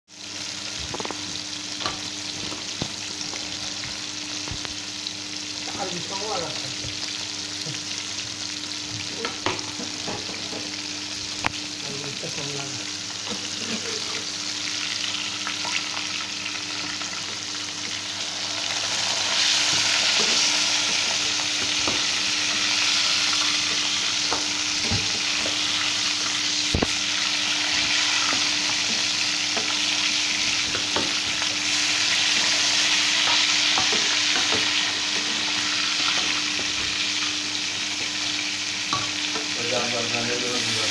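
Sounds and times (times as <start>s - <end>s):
fish sizzling in hot oil: 0.1s - 40.9s.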